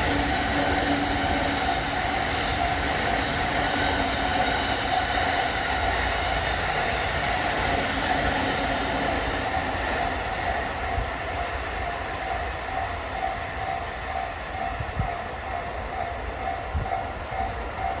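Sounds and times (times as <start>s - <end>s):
freight train rumbling past: 0.0s - 18.0s
train wheel clacks: 0.0s - 18.0s.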